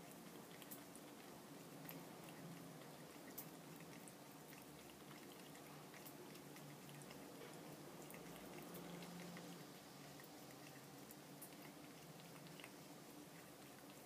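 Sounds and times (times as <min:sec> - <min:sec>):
cat lapping water: 0:00.0 - 0:14.0
faint low hum: 0:00.0 - 0:14.0
water dripping: 0:00.0 - 0:14.0.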